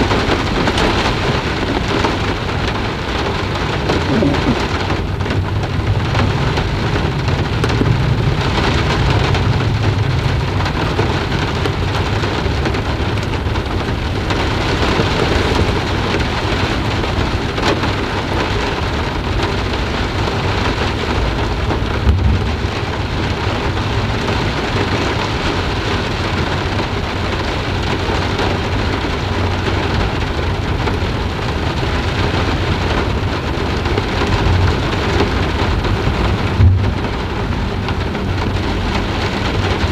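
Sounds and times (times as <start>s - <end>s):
low rumble of thunder: 0.0s - 39.9s
rain pattering: 0.0s - 39.9s.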